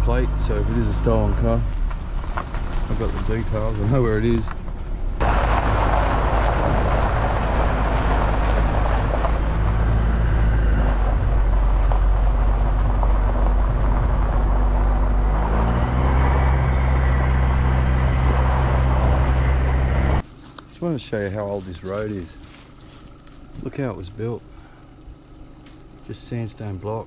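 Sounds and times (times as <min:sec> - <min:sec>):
tyre and road noise: 0:00.0 - 0:27.0
vehicle engine hum: 0:00.0 - 0:27.0.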